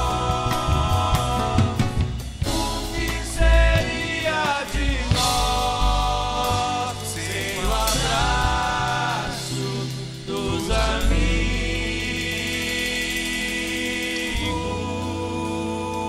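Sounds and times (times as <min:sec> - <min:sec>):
bass: 0:00.0 - 0:16.0
drums: 0:00.0 - 0:16.0
voices singing in harmony: 0:00.0 - 0:16.0.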